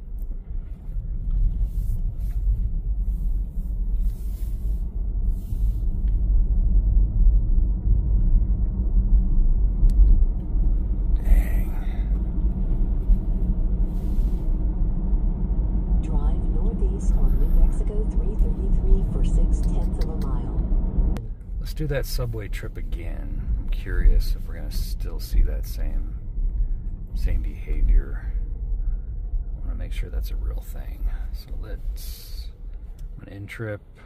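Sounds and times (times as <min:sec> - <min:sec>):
road and tyre rumble in car cabin: 0:00.0 - 0:34.0.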